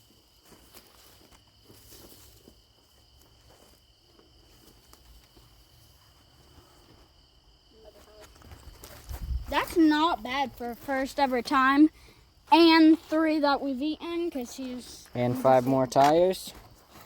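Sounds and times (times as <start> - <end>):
rustles and footsteps: 0.0 - 11.9, 12.5 - 17.0.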